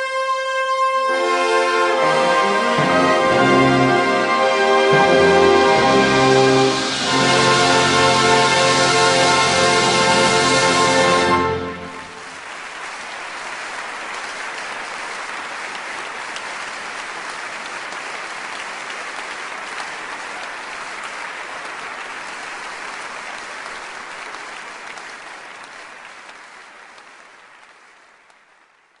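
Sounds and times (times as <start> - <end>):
audience applauding: 1.2 - 29.0.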